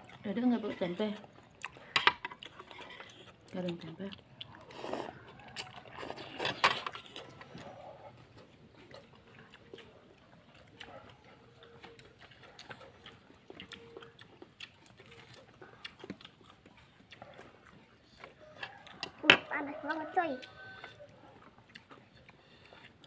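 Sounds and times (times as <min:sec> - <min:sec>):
people chewing: 0:00.0 - 0:23.0.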